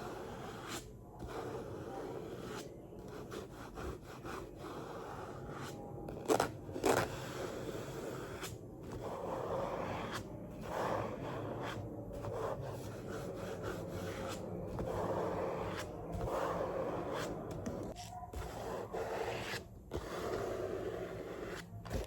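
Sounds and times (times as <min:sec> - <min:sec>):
scratchy rubbing on a book: 0:00.0 - 0:22.0.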